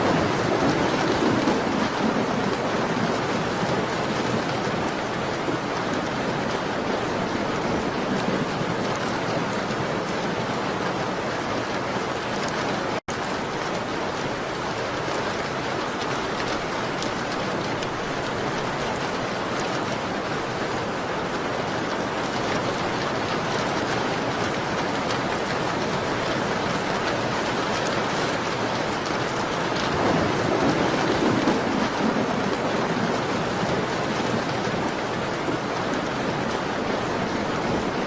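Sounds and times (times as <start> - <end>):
rain pattering on a window: 0.0 - 38.0.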